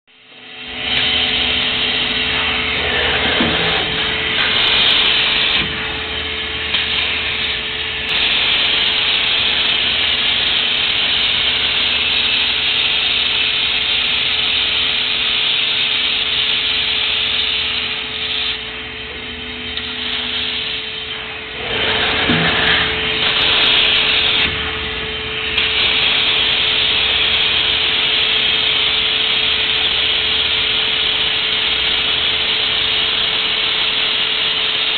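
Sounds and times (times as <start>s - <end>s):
machine hum: 0.1s - 34.9s
laser welder hissing: 0.8s - 34.9s.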